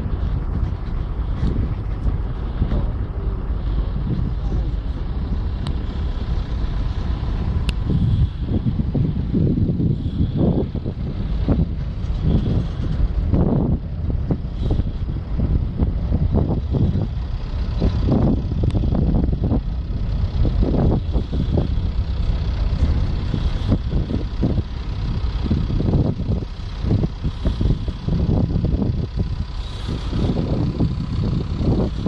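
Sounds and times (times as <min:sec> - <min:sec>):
ship low rumble: 0:00.0 - 0:32.0.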